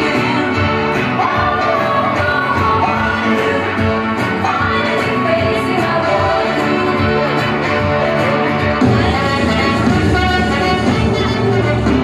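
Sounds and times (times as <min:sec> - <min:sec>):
song with instrumental backing: 0:00.0 - 0:12.0.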